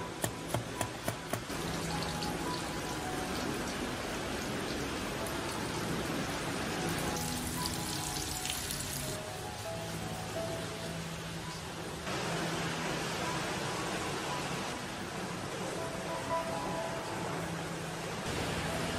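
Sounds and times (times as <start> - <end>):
soft background music: 0.0 - 18.9
steady rain hiss: 1.5 - 18.9.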